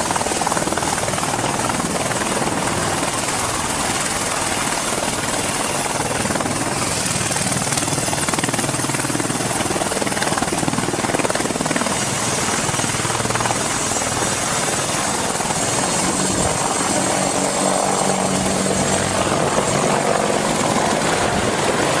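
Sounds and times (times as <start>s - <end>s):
helicopter engines and rotor drone: 0.0s - 22.0s.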